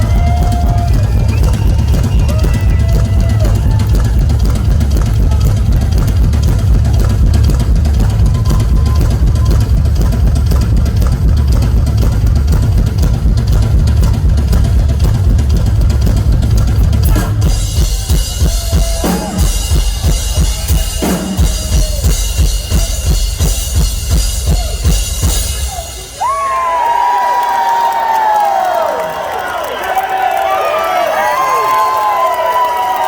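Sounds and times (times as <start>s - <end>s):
crowd cheering and whistling: 0.0s - 10.6s, 17.1s - 33.0s
rock drum solo: 0.0s - 26.5s.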